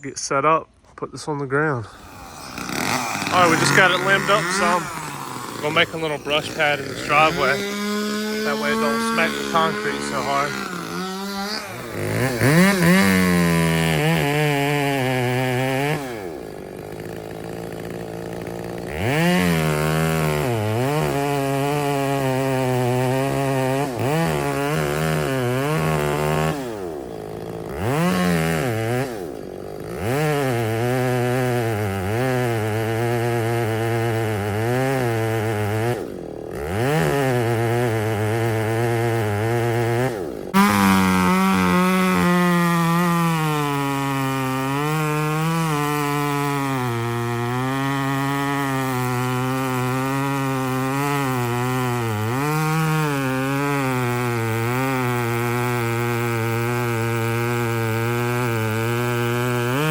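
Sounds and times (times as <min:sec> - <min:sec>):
chainsaw cutting wood: 0:01.9 - 0:59.9.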